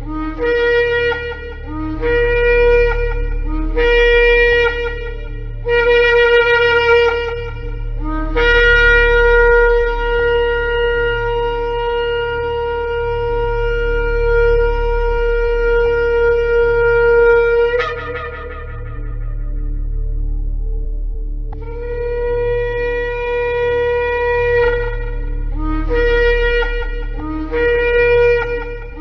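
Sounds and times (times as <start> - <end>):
shofar blast: 0.0 - 20.4, 21.6 - 29.0
steady low hum: 0.0 - 29.0.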